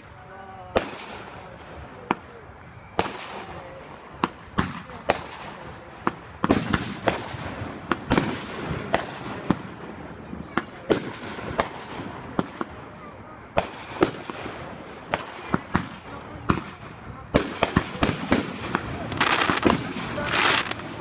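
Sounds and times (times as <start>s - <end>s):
fireworks bangs: 0.0s - 21.0s
fireworks pops and crackle: 0.7s - 21.0s.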